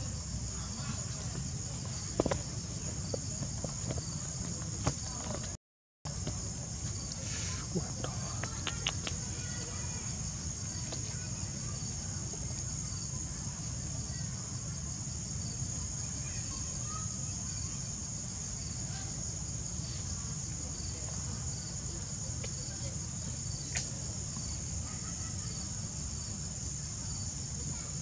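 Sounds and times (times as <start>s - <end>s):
insects chirping chorus: 0.0s - 5.5s, 6.1s - 28.0s.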